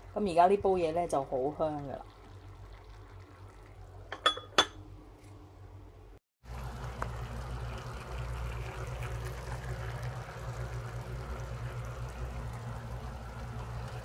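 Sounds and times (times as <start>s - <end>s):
low steady hum: 0.0s - 14.0s
food sizzling and bubbling in claypot: 0.1s - 4.8s, 6.4s - 14.0s.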